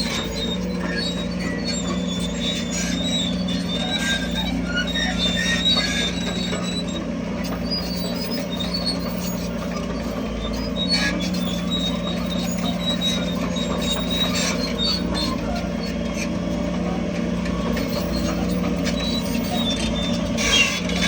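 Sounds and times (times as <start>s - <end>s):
diesel engine running: 0.0s - 21.0s
tracks squeaking: 0.0s - 21.0s.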